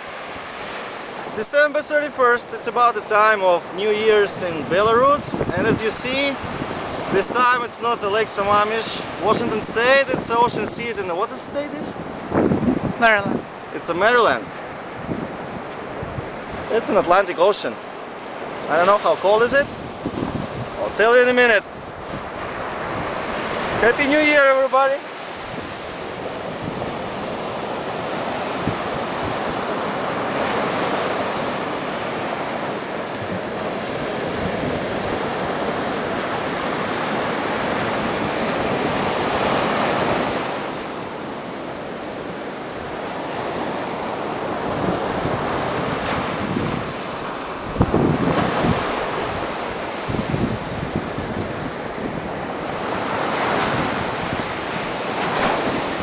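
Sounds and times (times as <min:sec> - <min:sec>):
ocean surf washing in and out: 0:00.0 - 0:56.0
wind rumbling on microphone: 0:03.0 - 0:56.0.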